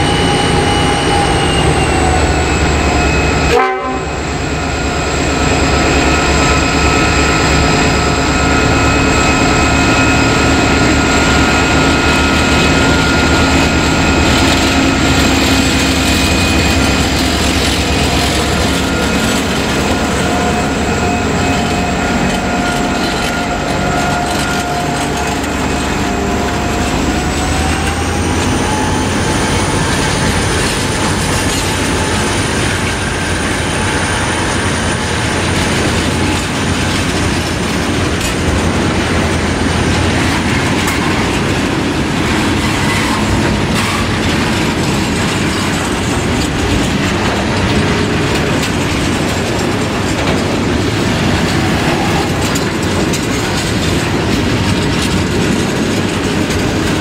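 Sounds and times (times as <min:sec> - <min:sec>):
diesel locomotive passing: 0:00.0 - 0:57.0
wheel-on-rail rumble and clatter: 0:00.0 - 0:57.0.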